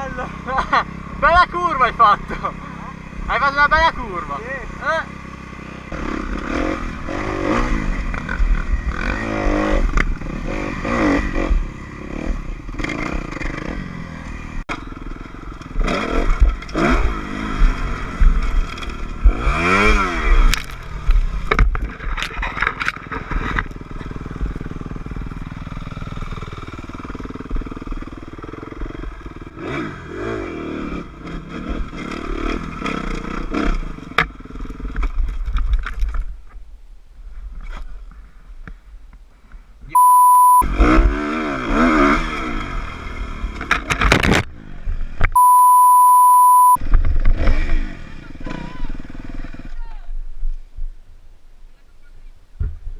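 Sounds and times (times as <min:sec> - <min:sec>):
dirt bike engines revving: 0:00.0 - 0:35.4, 0:39.9 - 0:49.8.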